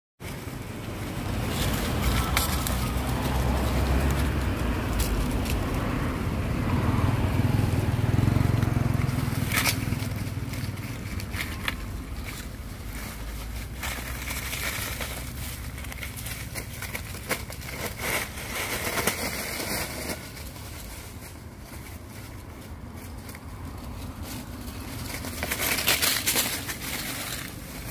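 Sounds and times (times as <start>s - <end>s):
dry leaves crackling and rustling: 0.2s - 27.9s.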